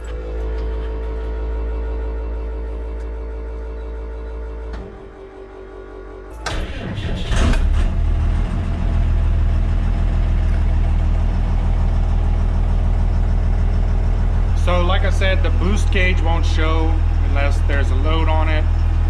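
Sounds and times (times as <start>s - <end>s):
diesel engine starting and idling: 0.0s - 19.0s.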